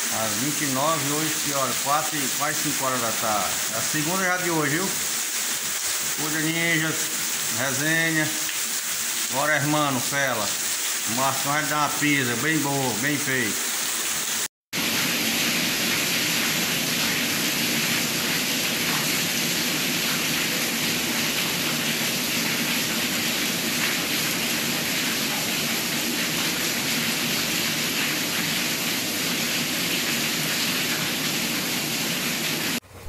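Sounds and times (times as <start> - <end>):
water pouring off roof edge: 0.0 - 32.9
heavy rain: 0.0 - 33.0.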